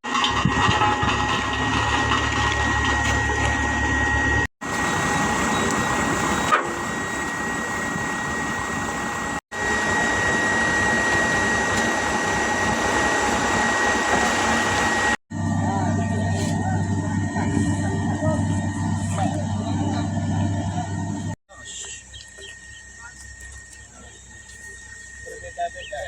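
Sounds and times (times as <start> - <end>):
road repair machinery whining: 0.0 - 26.0.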